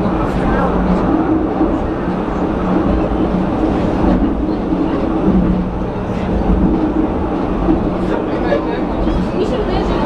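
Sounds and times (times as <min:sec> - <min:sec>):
funicular car low hum: 0:00.0 - 0:10.0
wheels rumbling on rail: 0:00.0 - 0:10.0.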